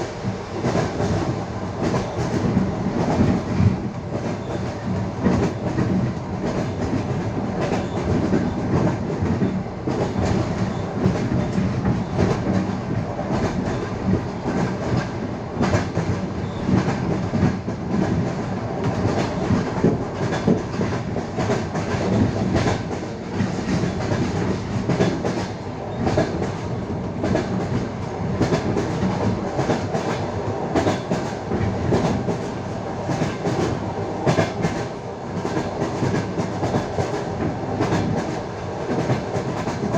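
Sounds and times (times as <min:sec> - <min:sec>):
rumble of moving carriage: 0:00.2 - 0:39.9
train wheels clattering over rail joints: 0:00.6 - 0:39.9.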